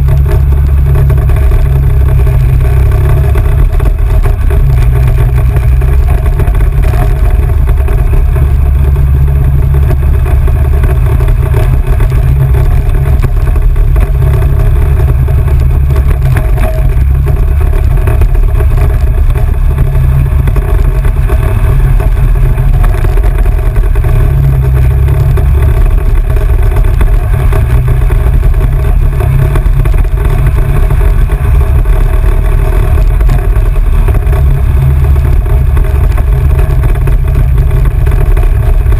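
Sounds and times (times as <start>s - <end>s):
vehicle engine running: 0.0s - 38.9s
wind rumble on microphone: 0.0s - 38.9s.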